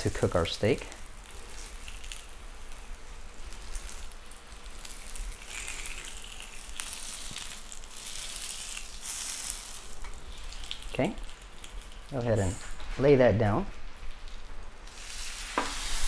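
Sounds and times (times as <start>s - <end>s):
steak fat sizzling on griddle: 0.0s - 12.9s, 14.0s - 16.0s
small crackles: 0.0s - 16.0s.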